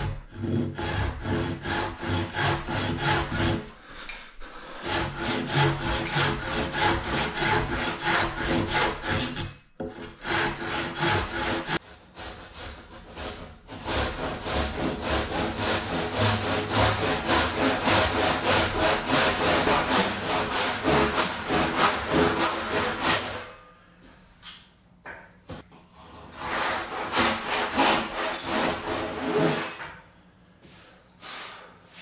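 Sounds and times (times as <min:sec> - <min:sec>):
hand saw cutting log: 0:00.0 - 0:23.5, 0:26.0 - 0:29.8.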